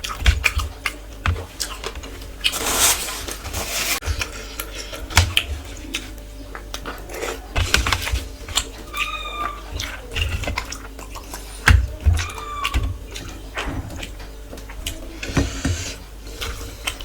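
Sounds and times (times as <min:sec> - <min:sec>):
chewing with wet mouth smacks: 0:00.0 - 0:02.5, 0:04.0 - 0:17.0.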